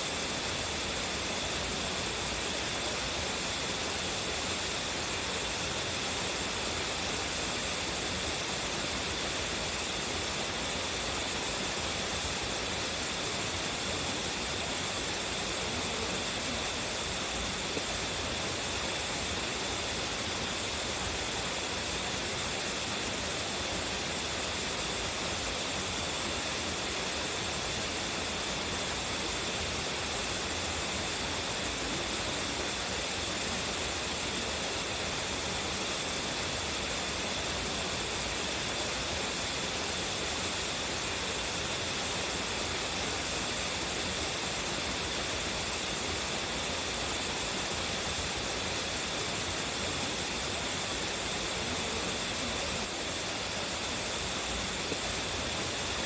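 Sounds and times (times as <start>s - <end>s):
waterfall pouring and splashing: 0.0s - 56.0s.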